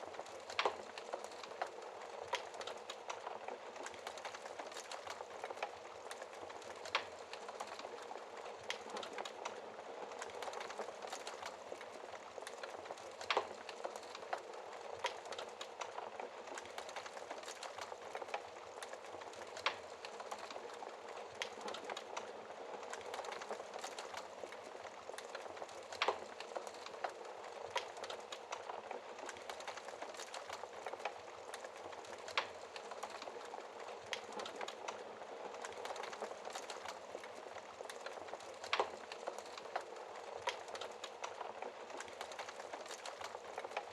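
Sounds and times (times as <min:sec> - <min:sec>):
logs crackling in fireplace: 0:00.0 - 0:43.9.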